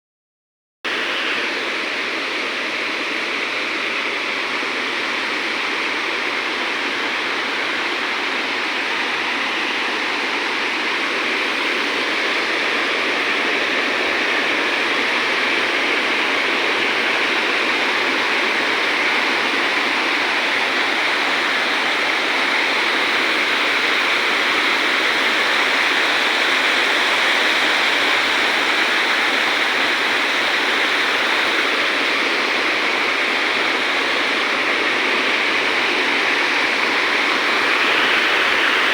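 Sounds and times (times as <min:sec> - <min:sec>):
rushing water: 0:00.9 - 0:38.9.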